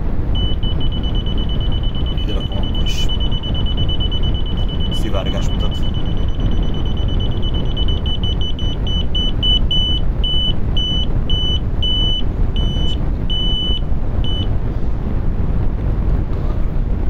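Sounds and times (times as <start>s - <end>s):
leak detector beeping: 0.3s - 14.6s.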